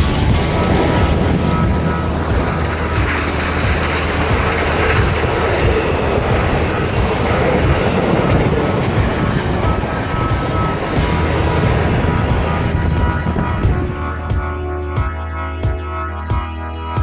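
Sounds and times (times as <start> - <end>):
passenger train passing: 0.0 - 14.9.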